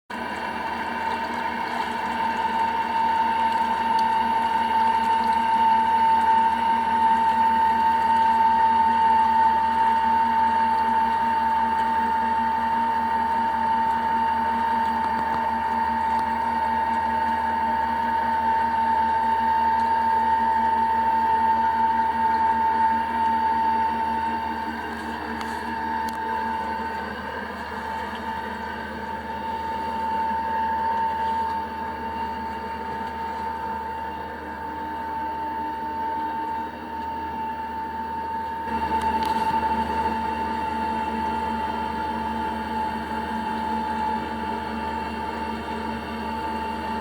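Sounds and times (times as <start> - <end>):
water noise: 0.1 - 47.0
electric motor whine: 0.2 - 47.0.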